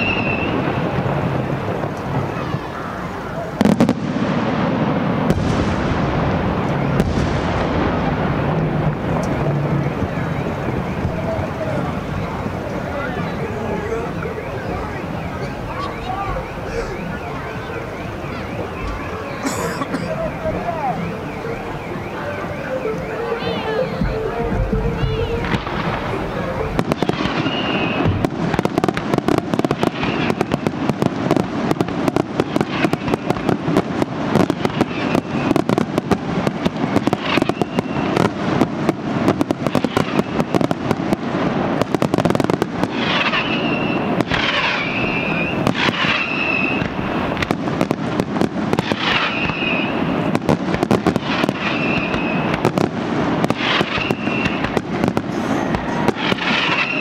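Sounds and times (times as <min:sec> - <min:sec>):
fireworks crackling and banging: 0:00.0 - 0:57.0
fireworks whistling: 0:00.0 - 0:57.0.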